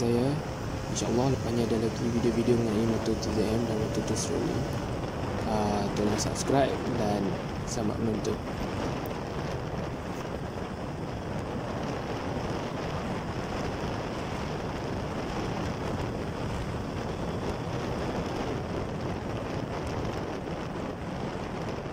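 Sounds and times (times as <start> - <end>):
motorcycle road noise: 0.0 - 21.9
wind buffeting microphone: 0.0 - 21.9.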